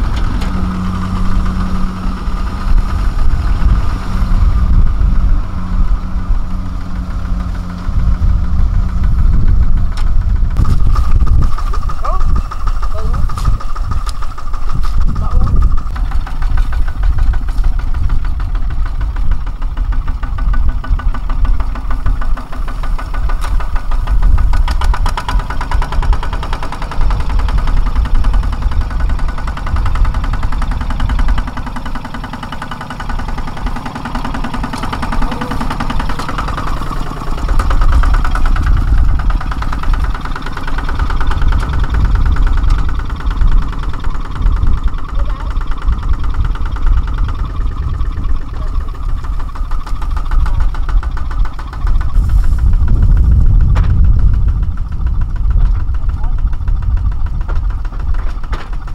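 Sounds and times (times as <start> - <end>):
diesel engine knocking chug: 0.0 - 58.9.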